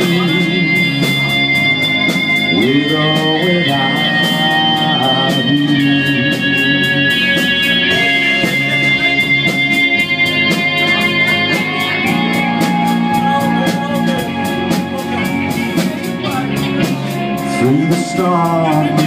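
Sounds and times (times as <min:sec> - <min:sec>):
bass line: 0:00.0 - 0:19.0
electric guitar held tones: 0:00.0 - 0:19.0
steady drum beat: 0:00.0 - 0:19.0.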